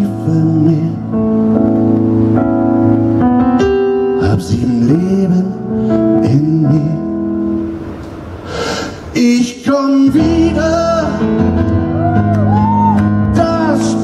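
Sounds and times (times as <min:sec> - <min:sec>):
held keyboard chords: 0:00.0 - 0:08.4, 0:10.2 - 0:14.0.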